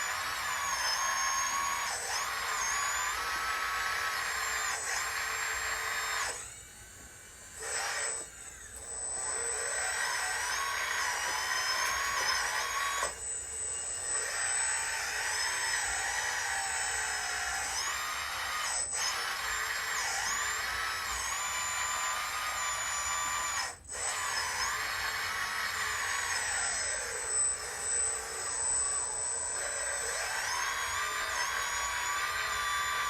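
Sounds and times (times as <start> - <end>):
electric motors whining: 0.0 - 33.0.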